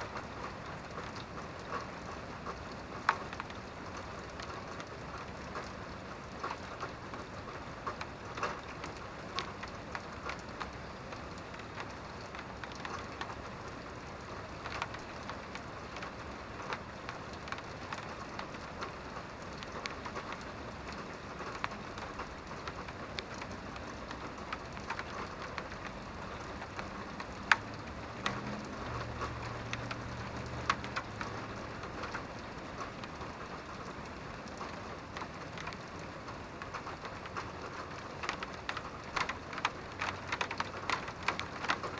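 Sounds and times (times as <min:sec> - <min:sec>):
raindrops ticking close by: 0:00.0 - 0:41.9
steady rain: 0:00.0 - 0:41.9.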